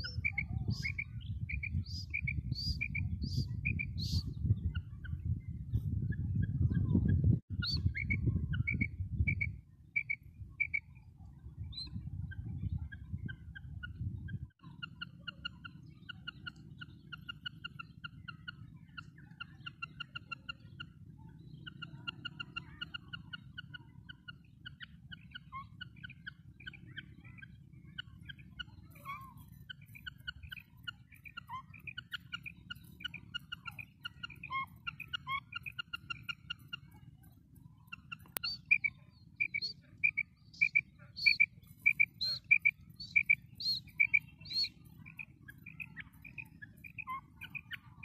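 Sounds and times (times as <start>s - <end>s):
quail calling: 0.0s - 5.2s, 12.3s - 48.0s.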